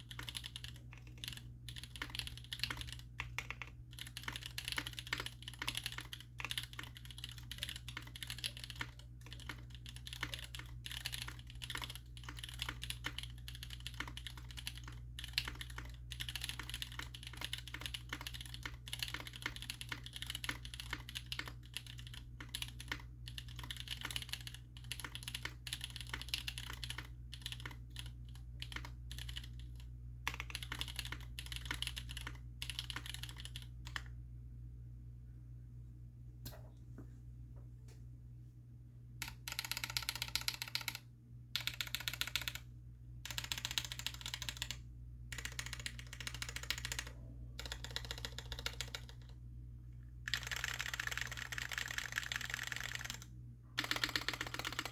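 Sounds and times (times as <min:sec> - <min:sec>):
mechanical keyboard typing: 0:00.0 - 0:34.1, 0:39.2 - 0:41.0, 0:41.6 - 0:42.6, 0:43.3 - 0:49.4, 0:50.3 - 0:54.9.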